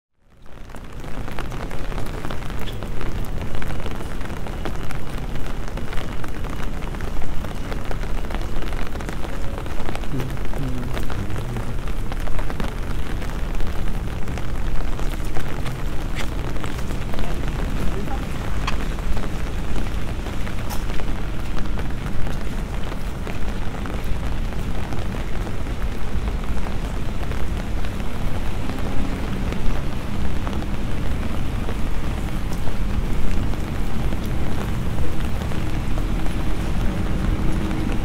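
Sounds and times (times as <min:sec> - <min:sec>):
rain hissing on street: 0:00.2 - 0:38.0.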